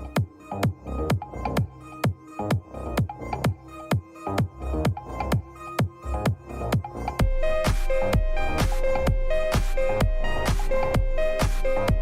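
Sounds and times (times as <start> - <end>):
electronic dance music: 0.0 - 12.0
kick drum beat: 0.1 - 12.0.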